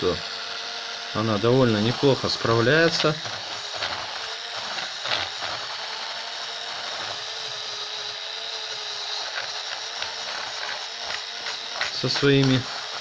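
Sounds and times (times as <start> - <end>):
small electric motor whine: 0.0 - 13.0
sanding wood hiss: 1.1 - 7.5, 8.8 - 13.0.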